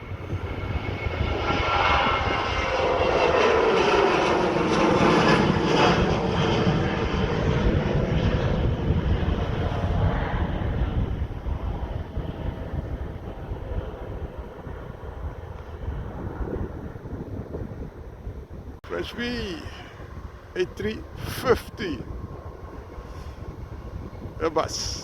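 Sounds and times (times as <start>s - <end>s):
jet engine whine: 0.0s - 25.0s
jet engines roaring at takeoff: 0.0s - 25.0s.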